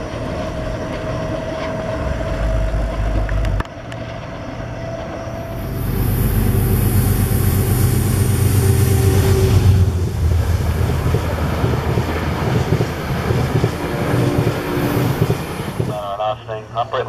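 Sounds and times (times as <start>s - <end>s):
passenger train passing: 0.0s - 17.0s.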